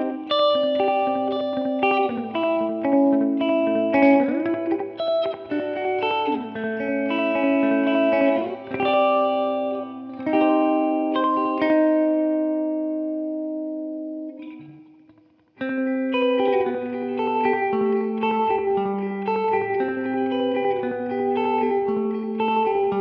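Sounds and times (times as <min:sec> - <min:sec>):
electric guitar melody with delay: 0:00.0 - 0:23.0.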